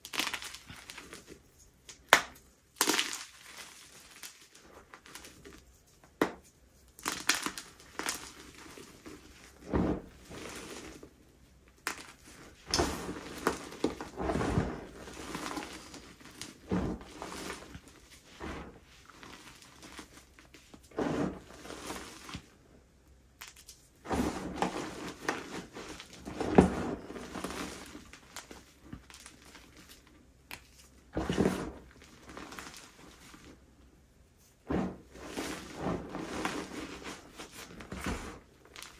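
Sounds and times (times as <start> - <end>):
chalk crunching and crumbling: 0.0 - 22.6, 23.4 - 33.6, 34.4 - 38.9.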